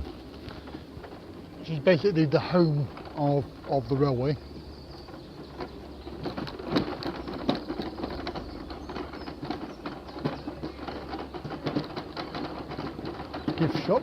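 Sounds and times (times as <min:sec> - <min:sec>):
wheels rattling over rough surface: 0:00.0 - 0:14.0.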